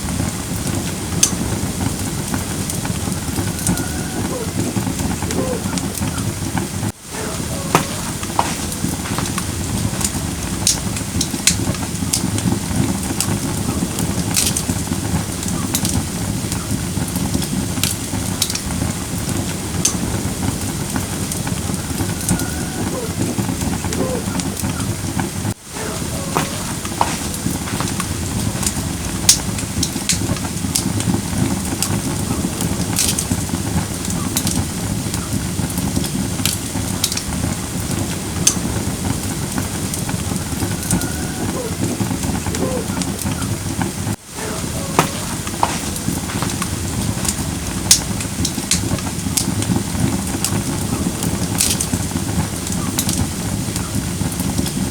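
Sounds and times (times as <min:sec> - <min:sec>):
campfire crackling and popping: 0:00.0 - 0:54.9
fire low rush: 0:00.0 - 0:54.9.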